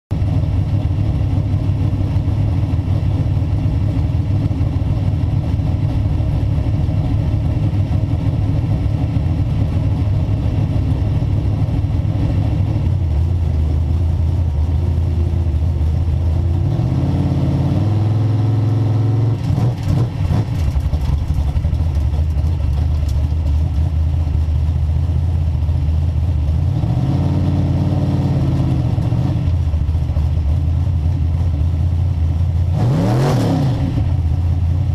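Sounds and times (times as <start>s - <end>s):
race car engine idling: 0.1s - 16.7s, 19.3s - 26.8s, 28.6s - 32.8s, 34.0s - 34.9s.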